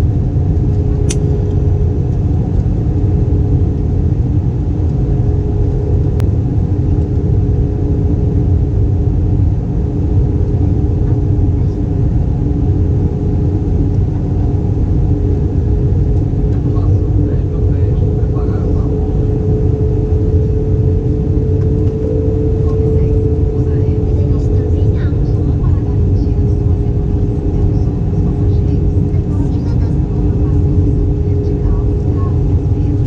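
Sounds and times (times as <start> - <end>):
aircraft engine and airflow rumble: 0.0 - 33.0
constant hum: 0.0 - 33.0.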